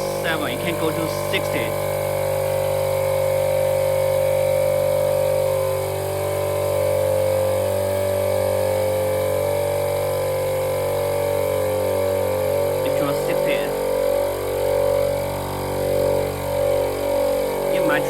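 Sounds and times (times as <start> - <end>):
air compressor motor humming: 0.0 - 18.0.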